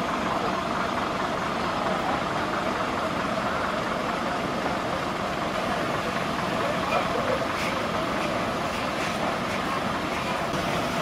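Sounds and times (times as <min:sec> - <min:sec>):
fire truck engine running: 0:00.0 - 0:11.0.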